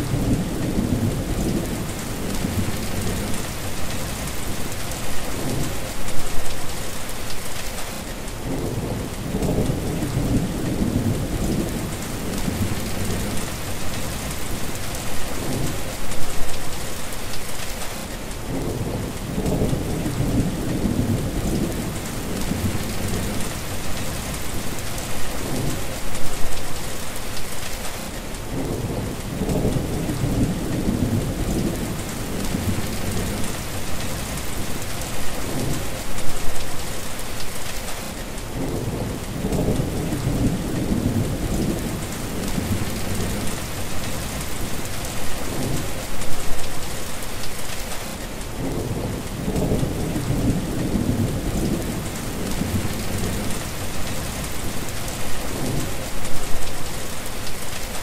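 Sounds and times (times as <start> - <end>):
heavy rain on wet tarmac: 0.0 - 58.0.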